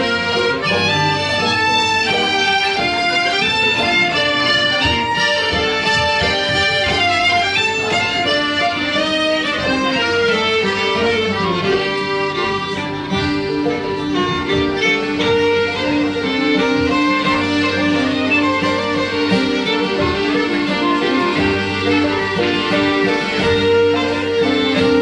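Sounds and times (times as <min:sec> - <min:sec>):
accordion: 0:00.0 - 0:25.0
acoustic guitar: 0:00.0 - 0:25.0
banjo: 0:00.0 - 0:25.0
fiddles playing folk tune: 0:00.0 - 0:25.0.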